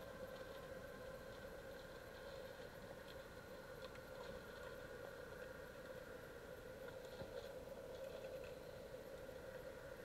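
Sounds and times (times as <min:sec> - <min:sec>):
light ticks: 0:00.0 - 0:09.8.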